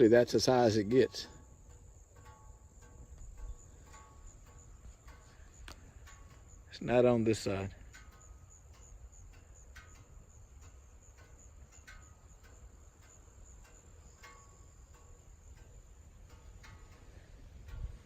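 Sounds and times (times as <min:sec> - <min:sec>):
crickets trilling: 0:00.0 - 0:18.0
soft ticks: 0:00.0 - 0:18.0.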